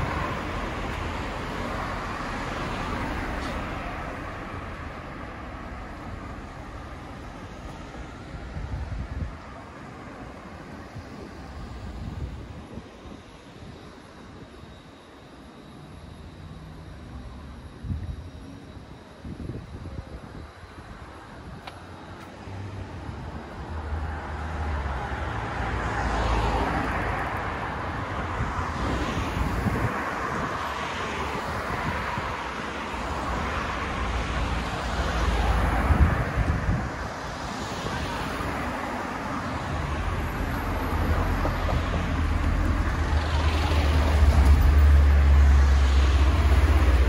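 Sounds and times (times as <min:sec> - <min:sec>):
cars passing: 0:00.0 - 0:18.5, 0:20.8 - 0:47.0
low traffic rumble: 0:00.0 - 0:47.0.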